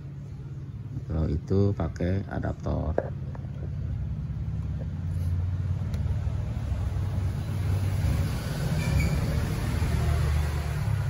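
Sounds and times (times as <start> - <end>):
engine idling rumble: 0.0 - 11.0.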